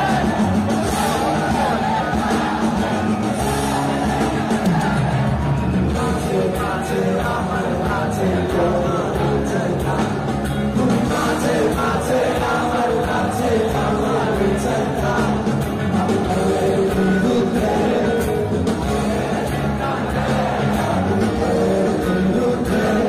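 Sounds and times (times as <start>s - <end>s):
live rock band with singer: 0.0s - 23.0s.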